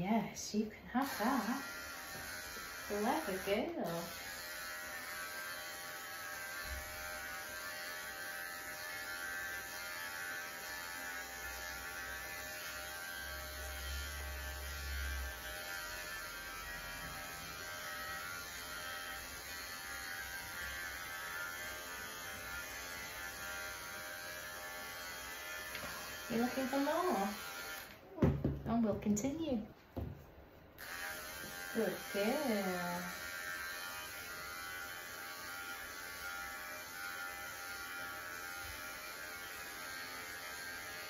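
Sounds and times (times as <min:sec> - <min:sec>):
electric clippers buzzing: 0:01.0 - 0:28.0, 0:30.8 - 0:41.0.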